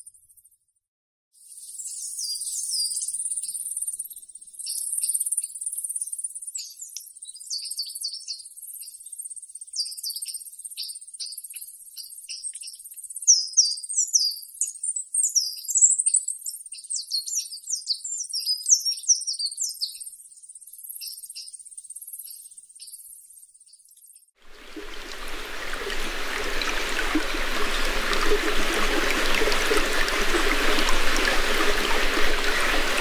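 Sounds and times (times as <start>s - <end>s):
birds chirping: 1.7s - 33.0s.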